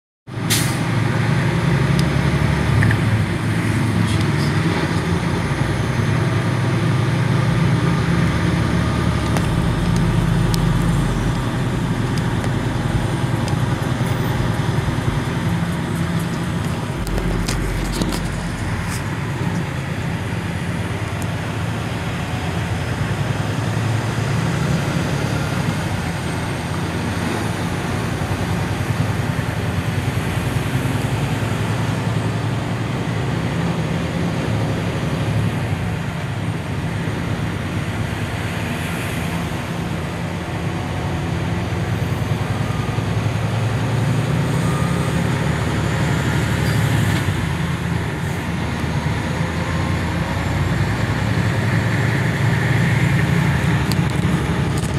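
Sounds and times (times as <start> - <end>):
truck engine and road drone: 0.3 - 54.9.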